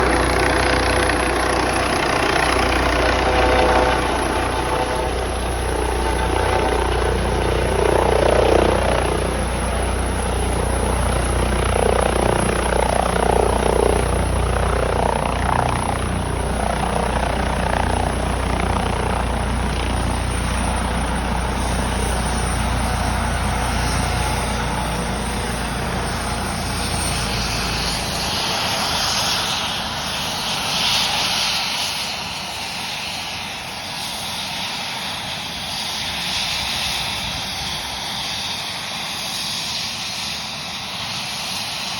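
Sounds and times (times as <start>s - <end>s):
helicopter rotor rumble: 0.0s - 41.9s
high turbine whine: 0.0s - 41.9s.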